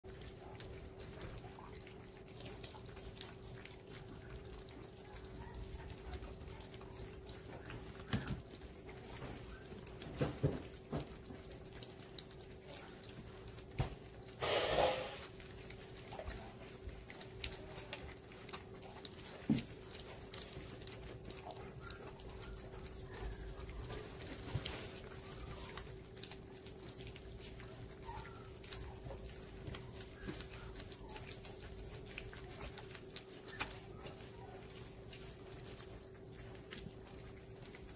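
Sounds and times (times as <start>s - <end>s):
puppies eating from metal bowls: 0.0s - 37.9s
faint steady hum: 0.1s - 37.9s.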